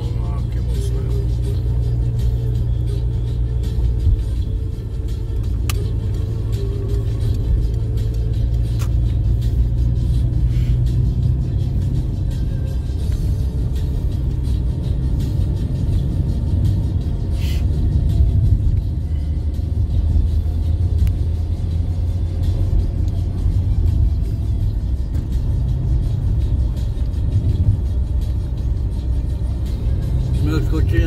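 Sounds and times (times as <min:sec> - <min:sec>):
car engine and tyres rumbling: 0:00.0 - 0:31.0.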